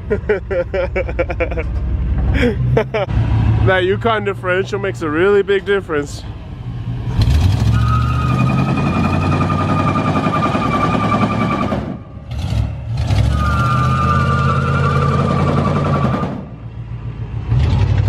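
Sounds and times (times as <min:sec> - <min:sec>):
truck engine running hard: 0:00.0 - 0:18.0.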